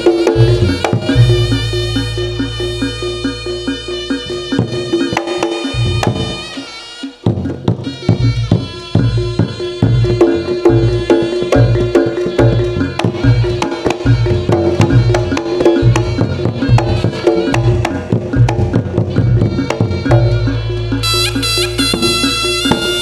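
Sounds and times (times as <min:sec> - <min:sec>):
hand drums beat: 0:00.0 - 0:23.0
reedy shawm melody: 0:00.0 - 0:23.0
struck percussion: 0:00.0 - 0:23.0.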